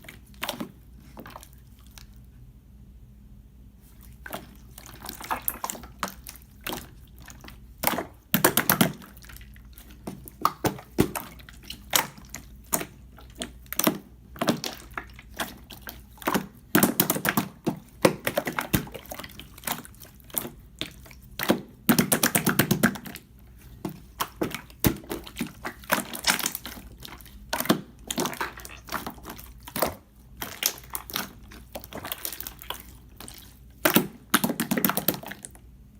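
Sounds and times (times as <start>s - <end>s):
slime squished by hand: 0.0s - 2.3s, 3.8s - 35.6s.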